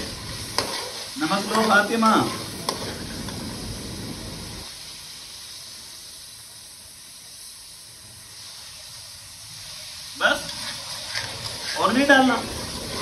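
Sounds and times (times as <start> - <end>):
food sizzling in pot: 0.0 - 13.0.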